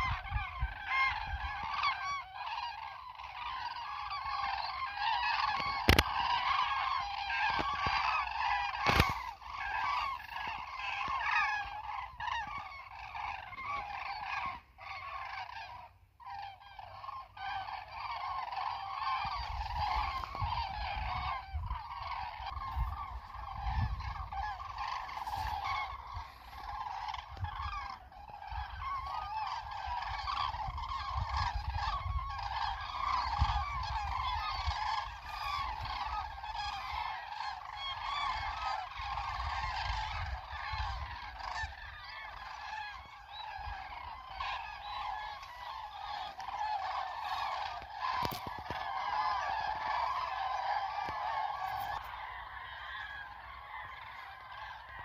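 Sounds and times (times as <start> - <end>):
geese honking in flight: 0.0 - 55.0.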